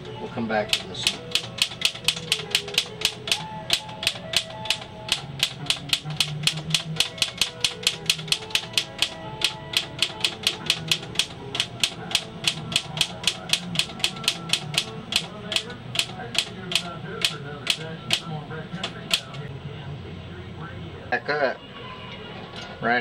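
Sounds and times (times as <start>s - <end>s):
typewriter clicking: 0.0s - 19.5s
music playing: 0.0s - 23.0s.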